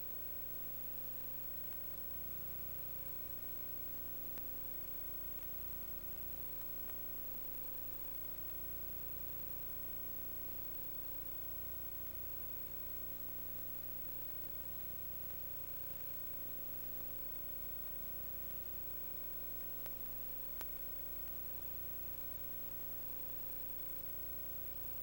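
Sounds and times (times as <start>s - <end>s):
steady hum and hiss: 0.0s - 25.0s
faint clicks: 3.0s - 9.7s, 10.8s - 25.0s.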